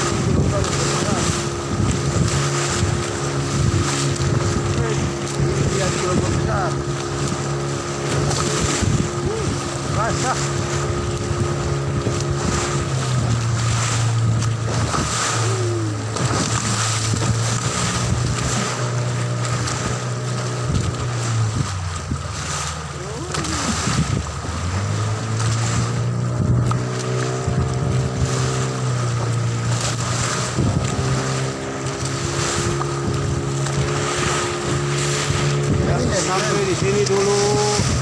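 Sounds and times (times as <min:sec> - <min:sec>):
boat engine running: 0:00.0 - 0:38.0
hull knocking against waves: 0:00.0 - 0:38.0
wind on microphone: 0:00.0 - 0:38.0.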